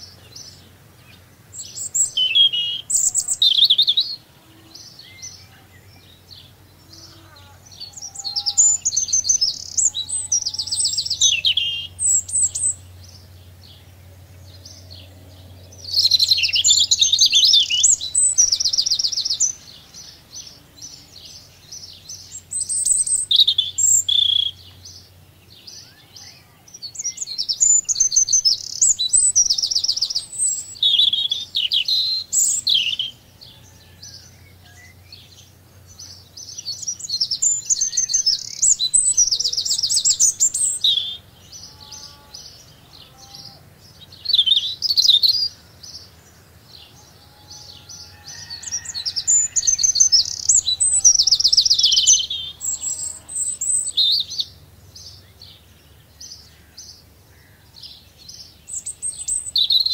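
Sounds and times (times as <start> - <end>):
small birds trilling: 0.0 - 59.9.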